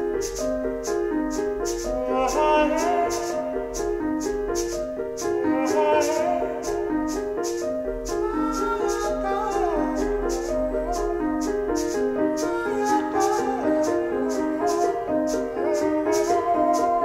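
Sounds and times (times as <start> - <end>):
repeating piano figure: 0.0 - 17.0
sliding high melodic line: 0.0 - 17.0.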